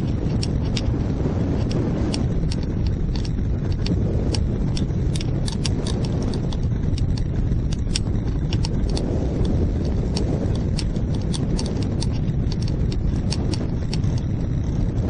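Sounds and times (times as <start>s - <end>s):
sharp ticks and clicks: 0.0s - 15.0s
wind buffeting microphone: 0.0s - 15.0s.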